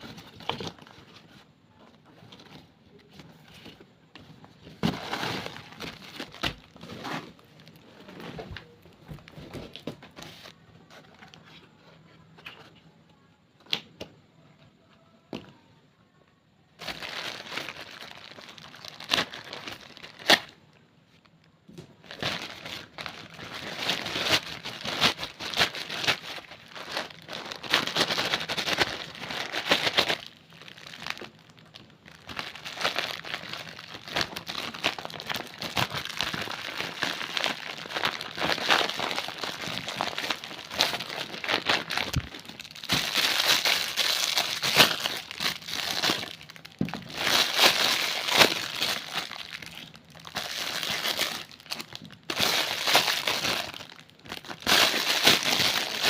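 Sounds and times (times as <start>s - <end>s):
plastic packaging crinkling and tearing: 0.0s - 1.3s, 4.5s - 11.4s, 16.8s - 20.6s, 21.9s - 56.0s.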